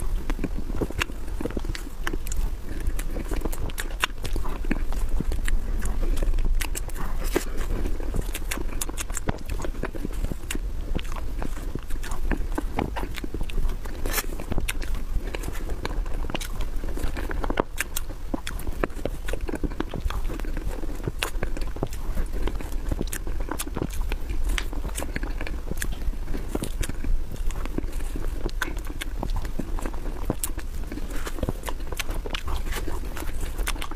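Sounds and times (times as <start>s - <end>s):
steady low hum: 0.0s - 33.9s
wet mouth smacking: 0.0s - 33.9s.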